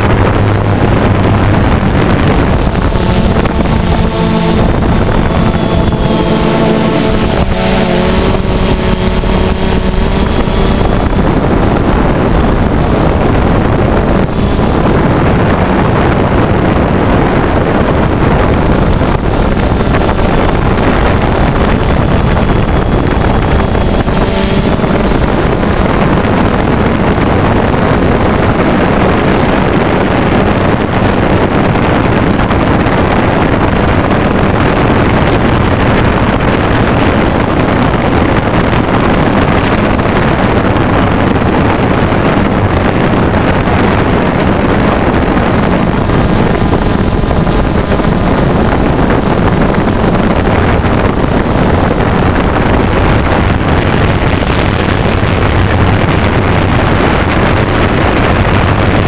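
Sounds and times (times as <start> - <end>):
drone propellers whirring: 0.0 - 59.0
wind on microphone: 0.0 - 59.0.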